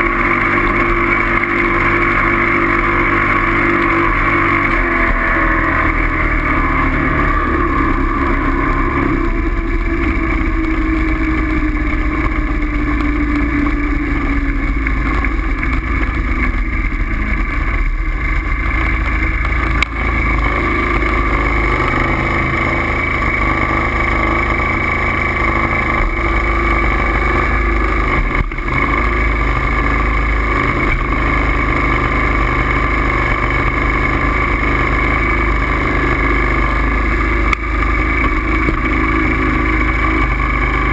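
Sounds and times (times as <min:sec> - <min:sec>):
steady engine drone: 0:00.0 - 0:40.9.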